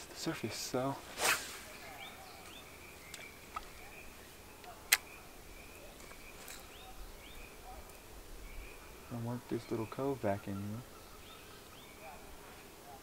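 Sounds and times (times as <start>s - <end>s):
faint insect buzz: 0.0s - 13.0s.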